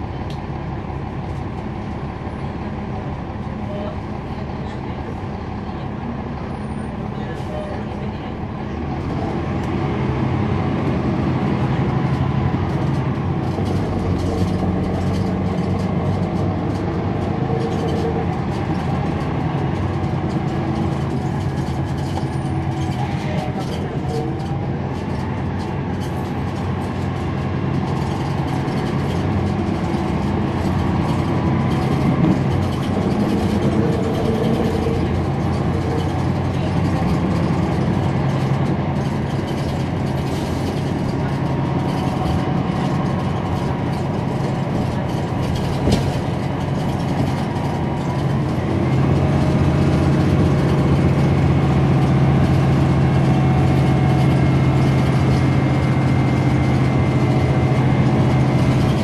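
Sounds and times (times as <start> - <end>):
bus diesel engine running: 0.0 - 59.0
road noise: 0.0 - 59.0.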